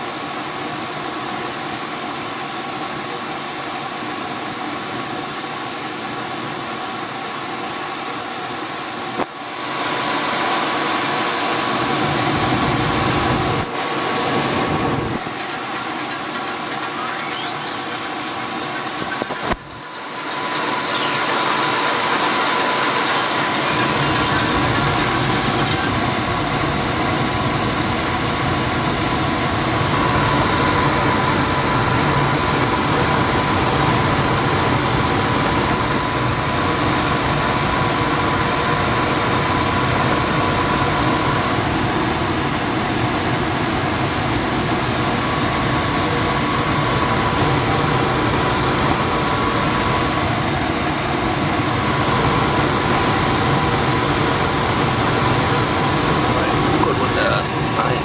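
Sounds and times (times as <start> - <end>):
faint steady whine: 0.0 - 58.0
gas furnace rushing drone: 7.0 - 58.0.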